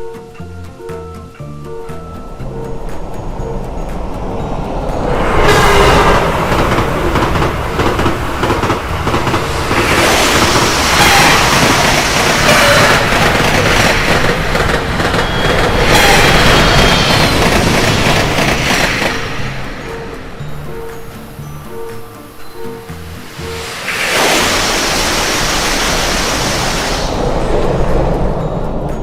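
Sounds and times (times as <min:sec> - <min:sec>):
train passing rumble: 0:00.4 - 0:29.0.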